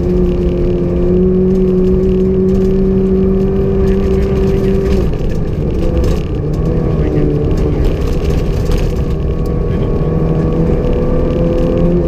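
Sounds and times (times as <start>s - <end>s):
car engine at high revs: 0.0s - 12.0s
tyres rumbling on snow: 0.0s - 12.0s.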